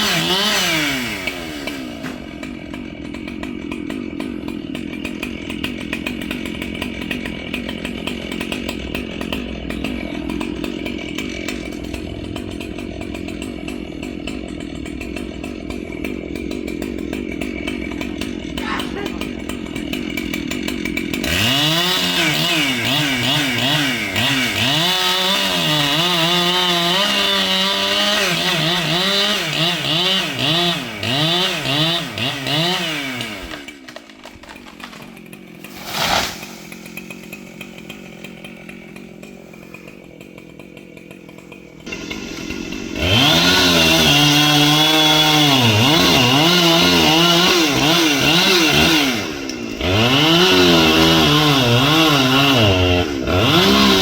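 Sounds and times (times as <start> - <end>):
chainsaw revving: 0.0 - 54.0
chainsaw running steadily: 0.0 - 54.0.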